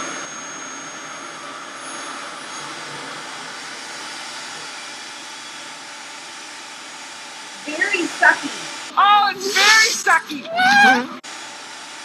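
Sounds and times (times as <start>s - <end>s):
hair dryer air suction: 0.0s - 10.0s.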